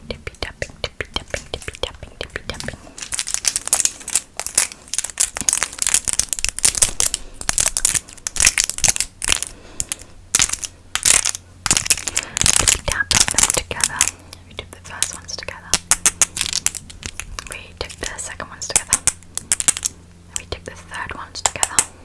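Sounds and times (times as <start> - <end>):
plastic pen caps clicking: 1.1 - 14.2, 14.9 - 20.7, 21.4 - 21.9.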